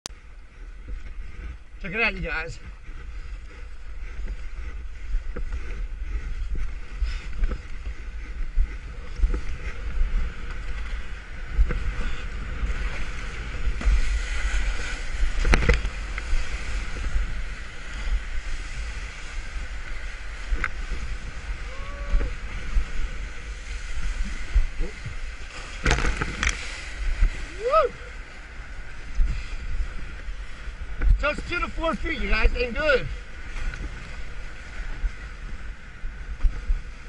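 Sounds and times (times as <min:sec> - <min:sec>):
wind buffeting microphone: 0:00.1 - 0:37.0
water rushing and splashing: 0:00.8 - 0:37.0.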